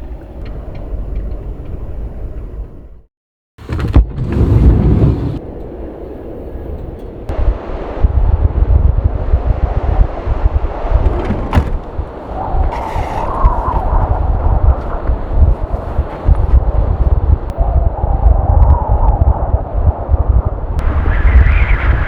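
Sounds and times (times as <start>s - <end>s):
wind buffeting microphone: 3.7s - 22.0s.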